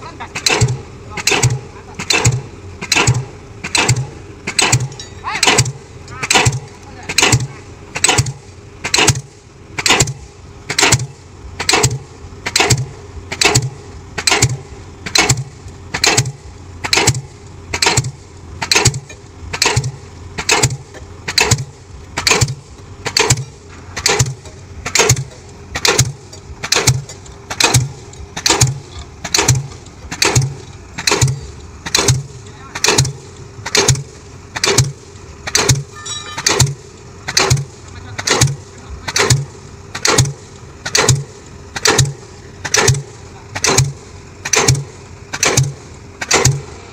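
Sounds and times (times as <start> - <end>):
excavator engine drone: 0.0 - 46.9
pile hammer bangs: 0.4 - 46.8.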